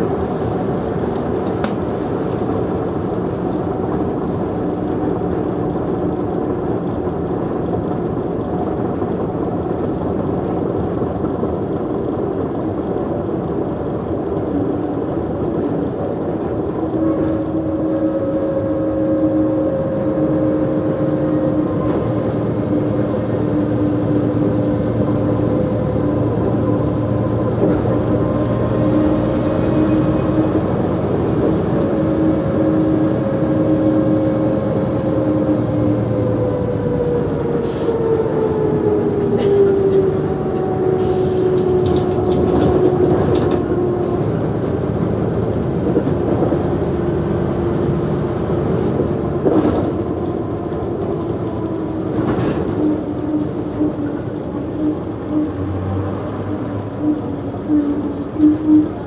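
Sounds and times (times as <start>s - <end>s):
bus diesel engine idling: 0.0s - 59.0s.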